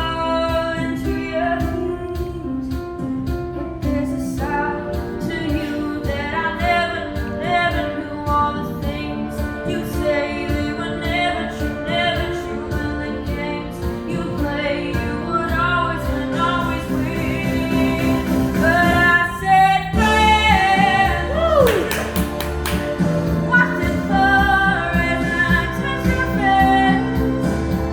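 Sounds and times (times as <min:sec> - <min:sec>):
instrumental accompaniment: 0:00.0 - 0:27.9
person singing lead vocal: 0:00.0 - 0:27.9.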